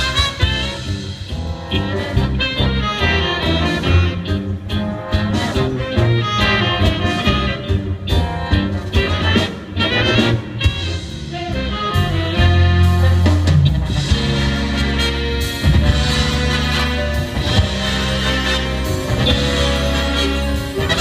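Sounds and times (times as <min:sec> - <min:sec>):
big band playing jazz: 0:00.0 - 0:21.0.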